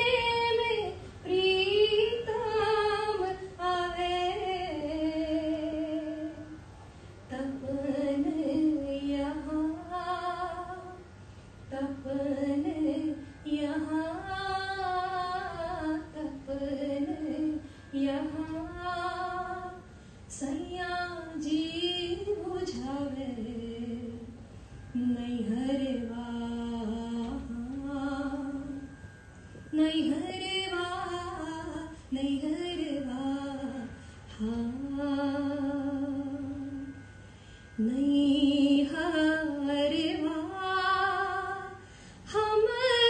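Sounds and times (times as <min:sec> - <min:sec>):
woman singing devotional song: 0:00.0 - 0:06.6, 0:07.3 - 0:11.1, 0:11.7 - 0:29.0, 0:29.6 - 0:43.0.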